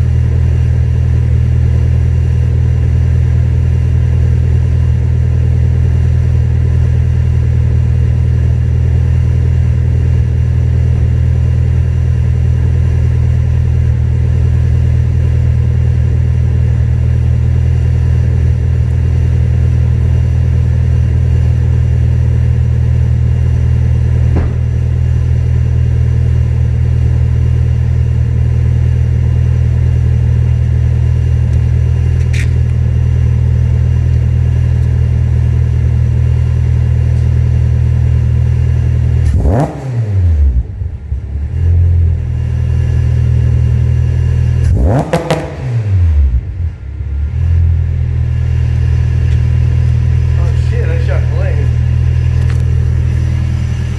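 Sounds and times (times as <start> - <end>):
car exhaust drone: 0.0 - 53.9.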